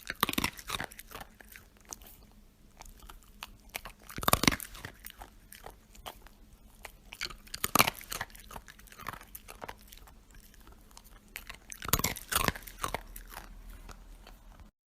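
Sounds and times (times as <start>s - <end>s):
dog crunching hard treats: 0.0s - 14.7s.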